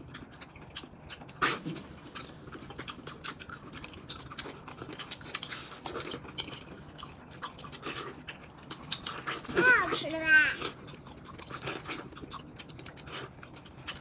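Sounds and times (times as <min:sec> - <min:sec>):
wet chewing and lip smacks: 0:00.0 - 0:14.0.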